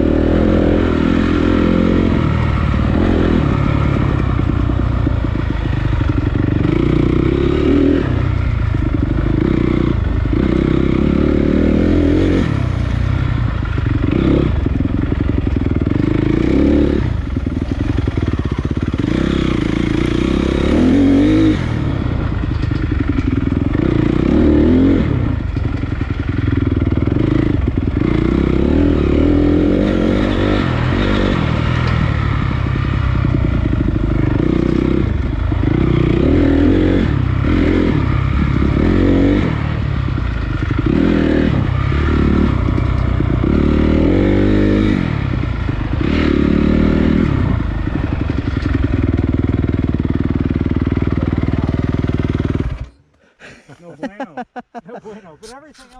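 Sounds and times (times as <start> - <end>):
dirt bike engine revving: 0.0 - 53.6.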